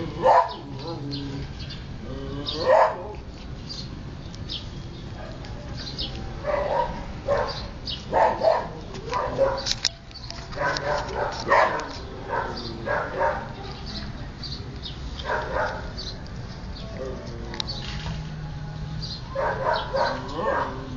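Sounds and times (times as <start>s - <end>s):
puppies yipping and barking: 0.0s - 3.3s, 5.1s - 14.2s, 15.2s - 18.1s, 19.0s - 20.9s.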